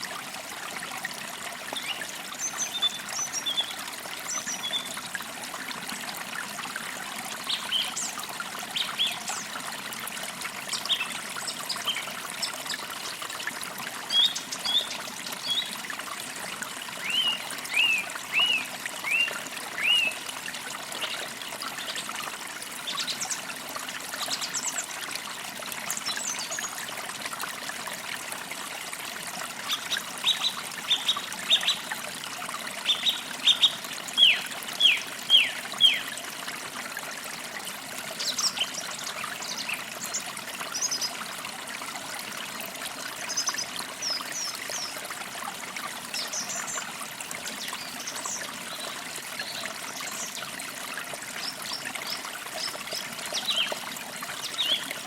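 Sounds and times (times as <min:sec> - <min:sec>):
creek trickling: 0:00.0 - 0:55.0.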